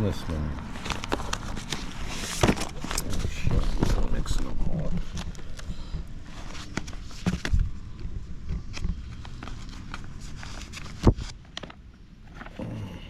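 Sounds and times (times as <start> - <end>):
paper rustling: 0.6 - 12.6.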